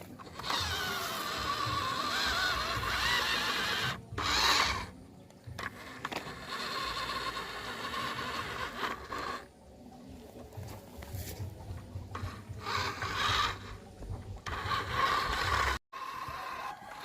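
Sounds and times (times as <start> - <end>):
electric motor and gearbox whining: 0.0 - 17.0.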